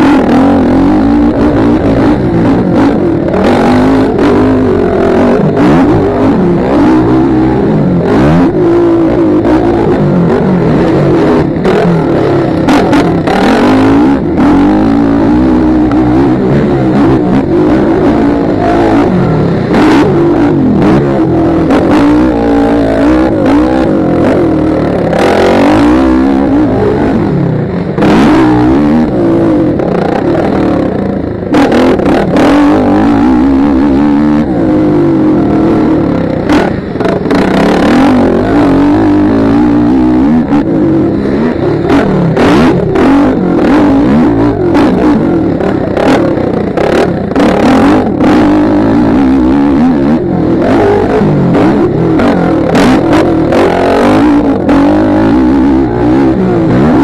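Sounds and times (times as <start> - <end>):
dirt bike engine revving: 0.0 - 57.0
rushes of noise: 0.0 - 57.0.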